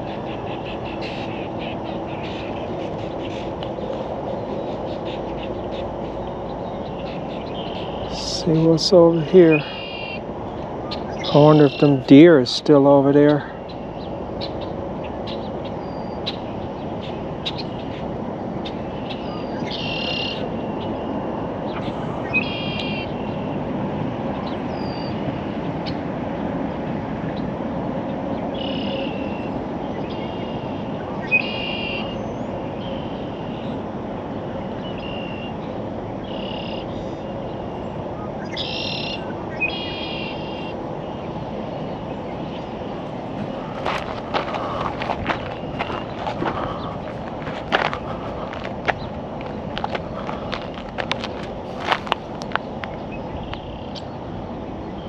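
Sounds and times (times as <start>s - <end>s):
songbirds calling: 0.0s - 55.0s.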